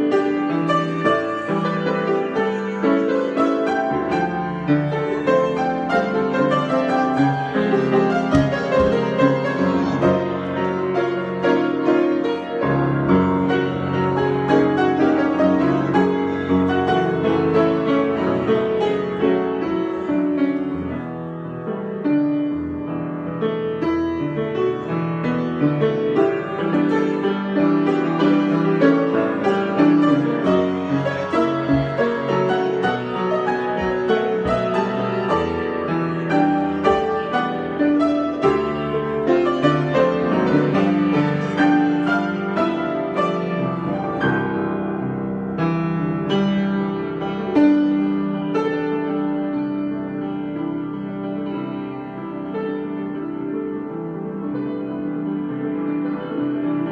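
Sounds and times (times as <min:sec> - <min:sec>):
solo piano playing: 0:00.0 - 0:56.9.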